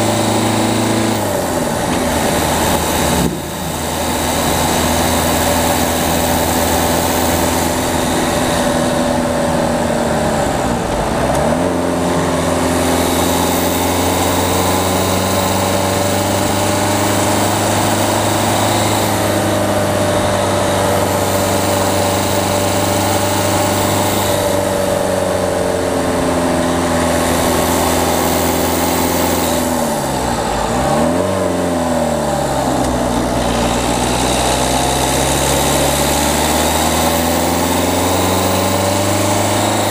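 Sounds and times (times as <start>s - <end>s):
diesel car engine pulling: 0.0s - 39.9s
road and wind noise: 0.0s - 39.9s.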